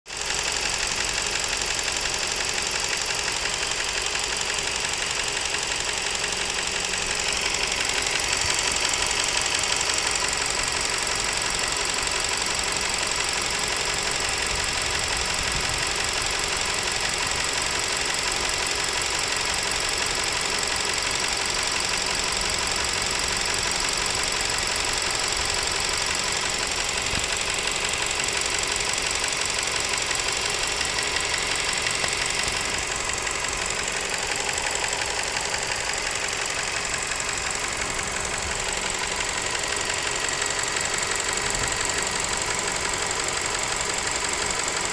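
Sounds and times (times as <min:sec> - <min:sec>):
car engine knocking: 0:00.1 - 0:44.9.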